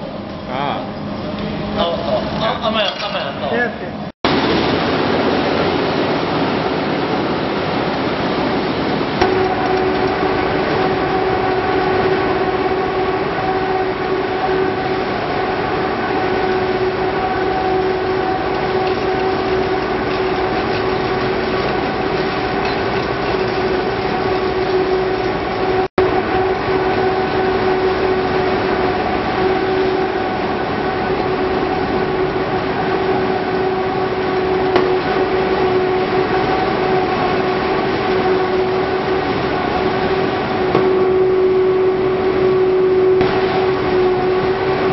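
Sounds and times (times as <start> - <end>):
machinery droning: 0.0 - 44.9.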